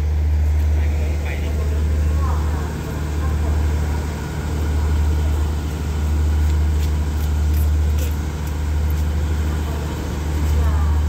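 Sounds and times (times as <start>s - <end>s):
diesel train engines idling: 0.0s - 11.0s.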